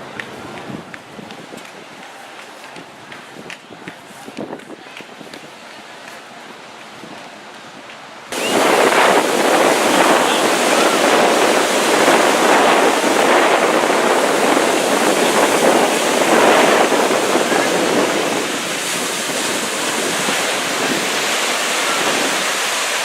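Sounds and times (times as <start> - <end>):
ocean surf on sandy beach: 0.0 - 23.0.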